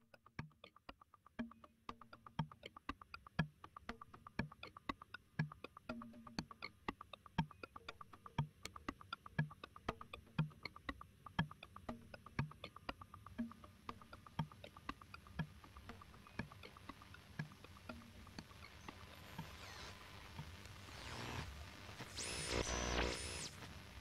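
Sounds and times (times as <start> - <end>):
rapid sharp clicks and ticks: 0.0 - 23.6.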